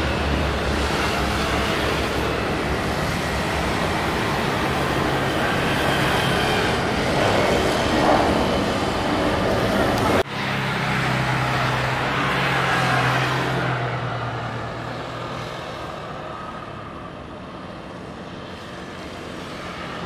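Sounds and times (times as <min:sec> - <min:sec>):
distant jet engine rumble: 0:00.0 - 0:20.0.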